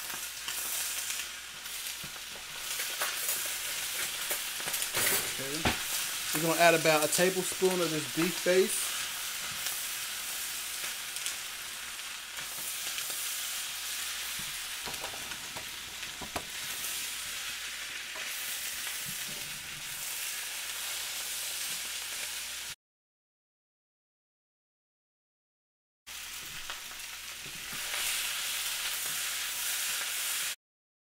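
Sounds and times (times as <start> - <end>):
rice sizzling in a wok: 0.0 - 22.8, 26.1 - 30.6.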